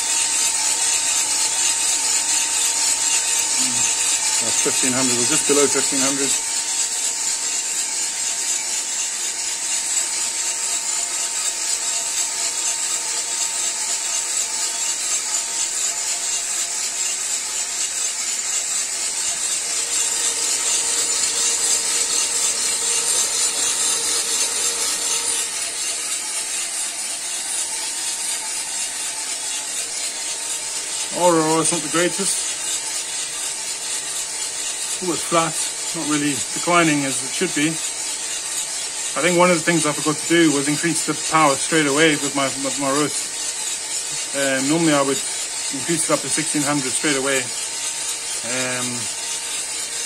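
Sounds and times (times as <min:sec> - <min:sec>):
high fan hiss: 0:00.0 - 0:09.5, 0:10.2 - 0:50.0
coffee beans rattling in drum: 0:00.0 - 0:50.0.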